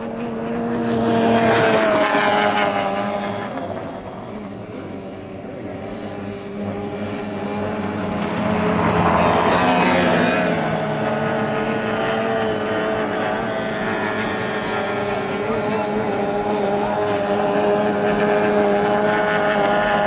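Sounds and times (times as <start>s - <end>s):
outboard racing boat engine: 0.0s - 20.0s.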